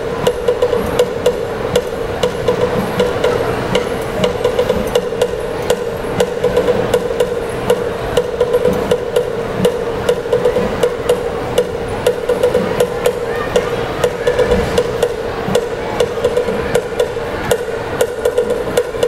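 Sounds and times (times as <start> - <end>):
continuous ringing tone: 0.0 - 19.0
percussion sharp strikes: 0.0 - 19.0.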